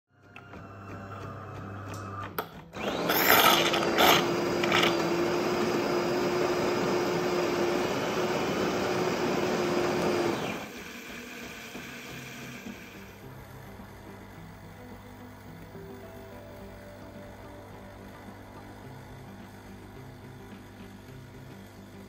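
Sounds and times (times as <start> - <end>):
coffee machine frothing milk: 0.1 - 22.0.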